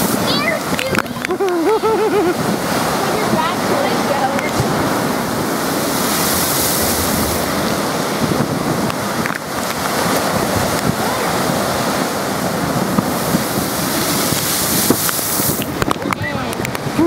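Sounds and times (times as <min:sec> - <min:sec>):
waves crashing against wall: 0:00.0 - 0:17.0.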